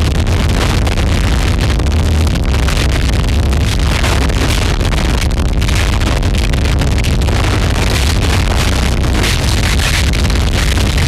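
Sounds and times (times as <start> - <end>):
distorted static noise music: 0.0 - 11.0
heavy low rumble: 0.0 - 11.0.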